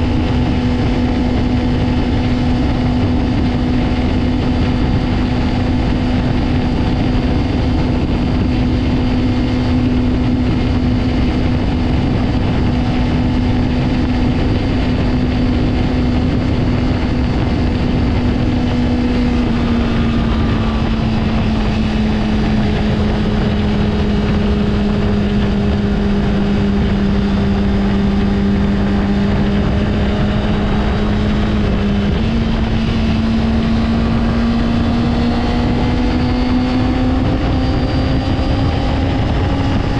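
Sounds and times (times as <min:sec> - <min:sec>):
motorcycle engine running high: 0:00.0 - 0:39.9.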